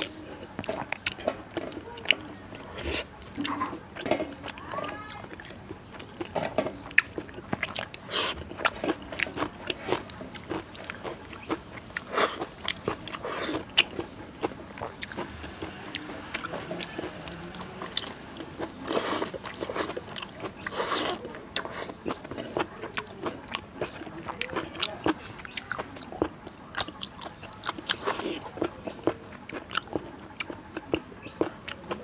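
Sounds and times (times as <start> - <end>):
wet chewing and lip-smacking: 0.0 - 32.0.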